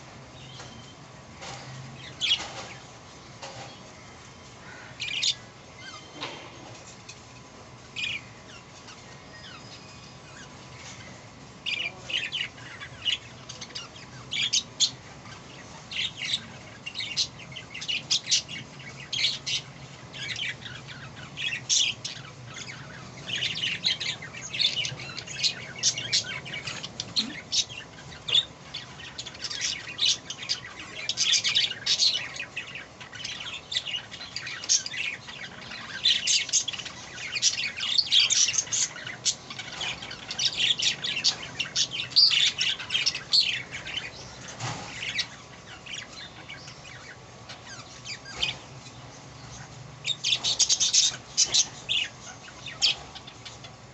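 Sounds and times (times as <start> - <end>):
budgerigar chicks chirping: 8.0 - 53.9.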